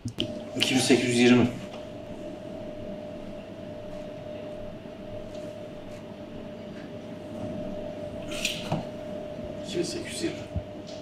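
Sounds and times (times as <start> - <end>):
constant mid-pitched hum: 0.0 - 11.0.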